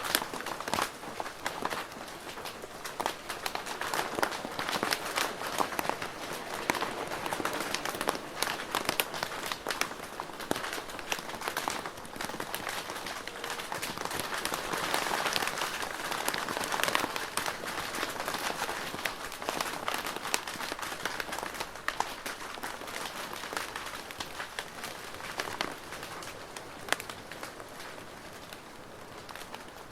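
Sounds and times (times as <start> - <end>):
rain on a plastic roof: 0.0 - 29.9.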